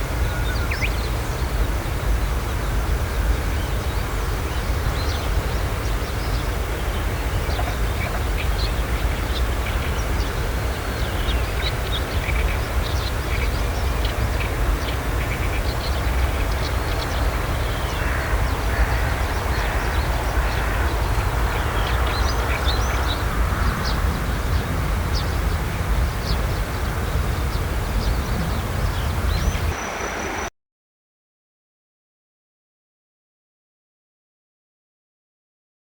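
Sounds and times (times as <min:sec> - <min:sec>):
steady low rumble: 0:01.0 - 0:30.5.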